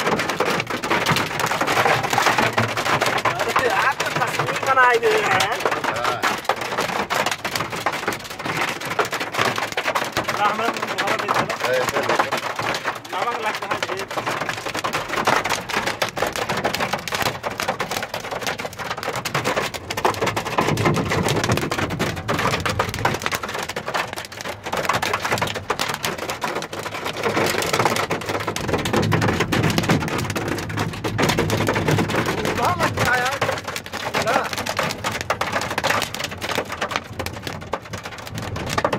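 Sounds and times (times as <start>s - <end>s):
hail clattering: 0.0s - 38.9s.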